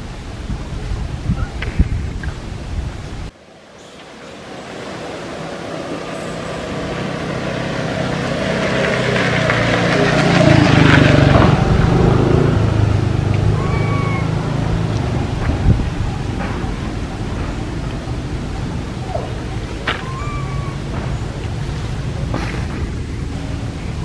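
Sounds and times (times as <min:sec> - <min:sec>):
vehicle passing by: 0:04.1 - 0:24.0.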